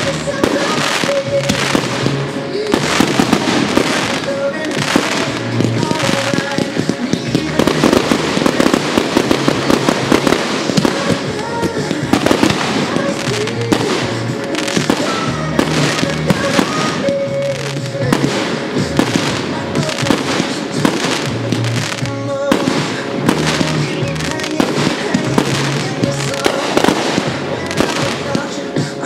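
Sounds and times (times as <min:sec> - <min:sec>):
fireworks bursting: 0:00.0 - 0:29.0
music with bass line: 0:00.0 - 0:29.0.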